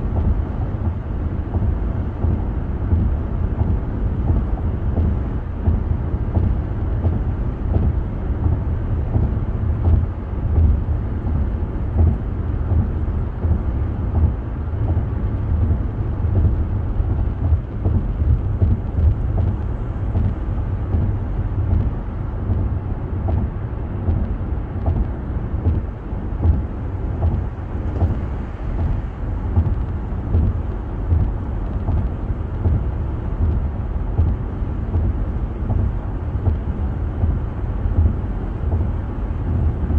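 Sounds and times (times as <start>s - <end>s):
engine hum: 0.0s - 39.9s
tyre and road noise: 0.0s - 39.9s.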